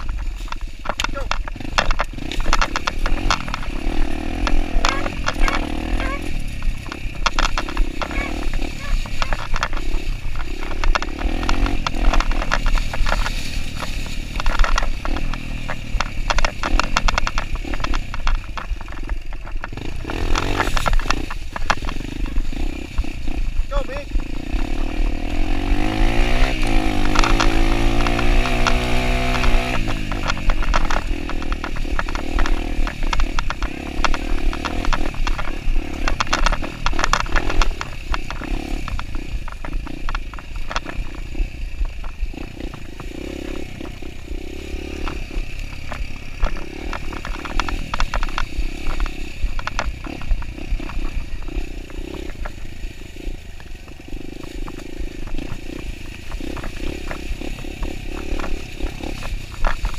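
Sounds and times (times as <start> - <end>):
dirt bike engine revving: 0.0 - 59.9
sharp clattering knocks: 0.0 - 59.9.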